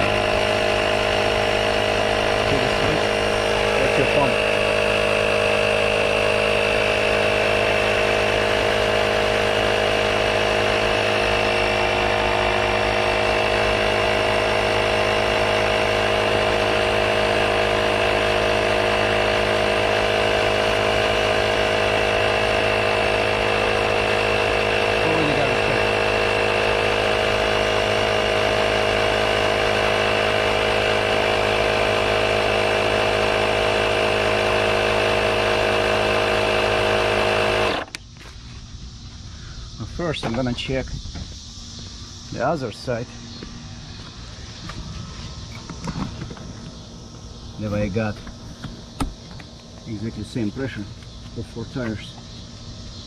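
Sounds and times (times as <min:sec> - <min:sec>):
electric tire inflator running: 0:00.0 - 0:53.0.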